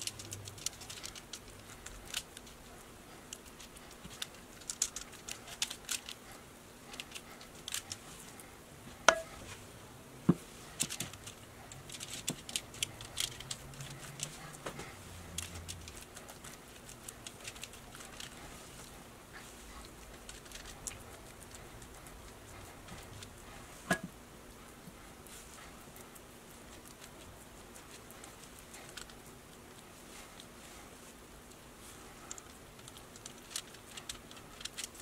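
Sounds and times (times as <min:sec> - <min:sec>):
spoon ticks and foil crinkles: 0:00.0 - 0:08.1, 0:10.7 - 0:18.9, 0:19.8 - 0:23.3, 0:25.8 - 0:30.5, 0:31.4 - 0:35.0.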